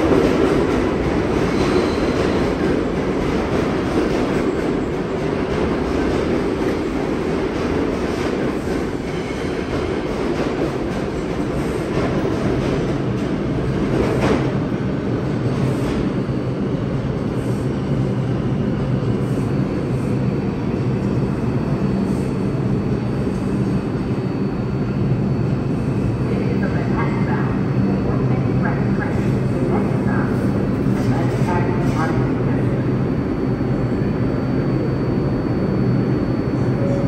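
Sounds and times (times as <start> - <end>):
subway train rumble and hum: 0.0 - 37.0.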